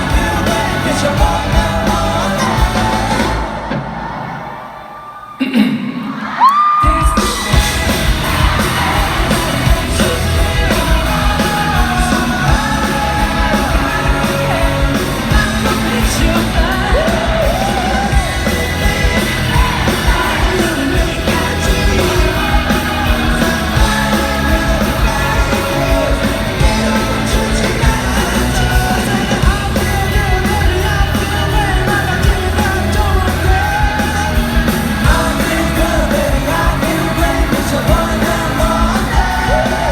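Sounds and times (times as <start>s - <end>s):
person singing: 0.0s - 3.8s, 5.4s - 39.9s
live rock band: 0.0s - 5.3s, 6.1s - 39.9s.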